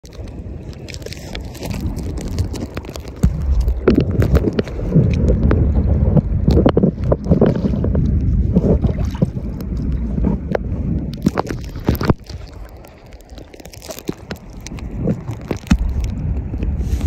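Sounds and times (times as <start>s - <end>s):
wind on microphone: 0.0s - 17.0s
low rumble: 1.5s - 13.2s, 14.0s - 17.0s.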